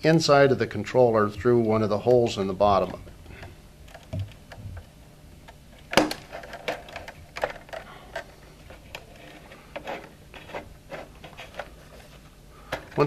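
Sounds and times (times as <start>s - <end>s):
wires clicking and rattling on plastic: 1.6s - 12.1s.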